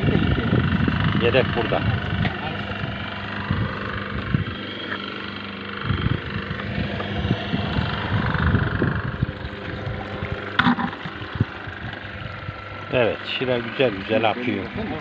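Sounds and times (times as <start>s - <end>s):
grape press motor humming: 0.0s - 15.0s.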